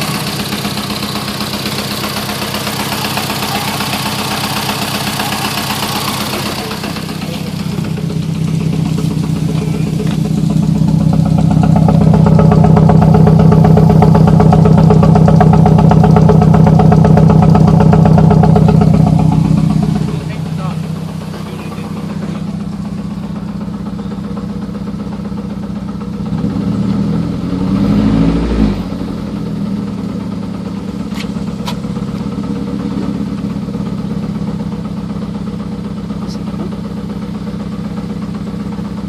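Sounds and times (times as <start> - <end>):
engine idling unevenly: 0.0 - 27.8, 28.6 - 39.0.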